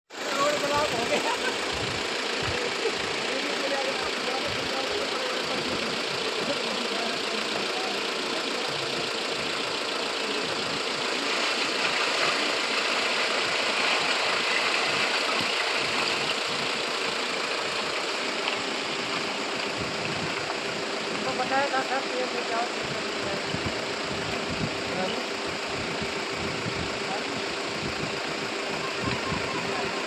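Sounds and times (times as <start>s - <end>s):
vehicle engine idling: 0.1s - 30.0s.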